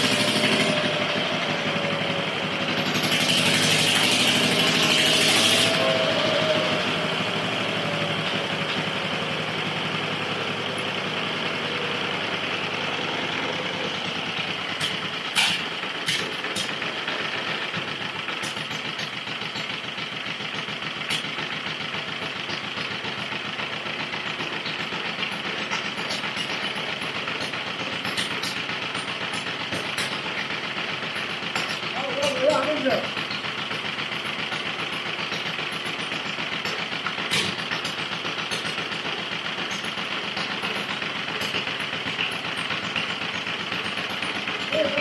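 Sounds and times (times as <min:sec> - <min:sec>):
stationary engine running: 0:00.0 - 0:45.0.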